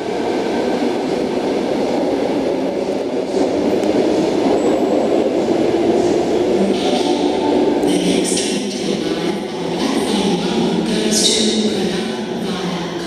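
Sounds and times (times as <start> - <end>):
electric train departing: 0.0 - 13.0.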